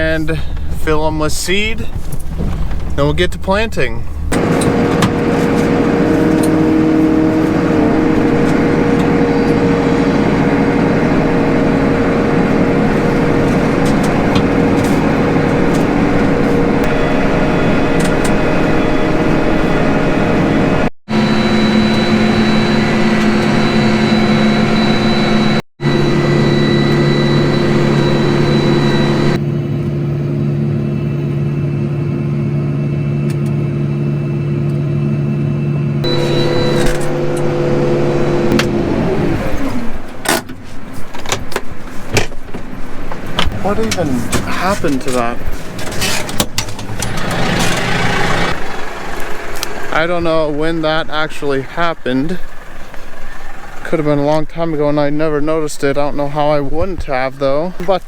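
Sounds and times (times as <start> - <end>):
tractor diesel engine under load: 0.0 - 29.4, 36.0 - 58.0.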